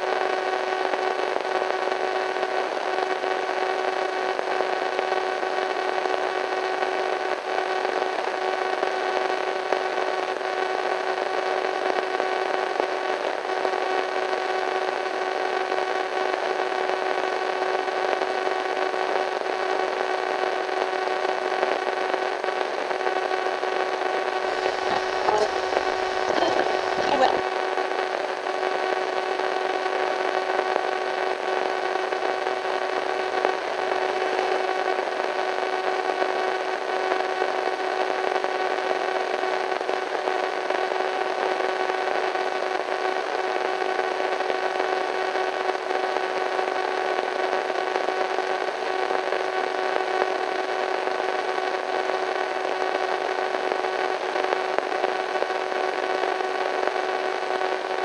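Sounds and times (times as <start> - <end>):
radio static hiss: 0.1 - 58.0.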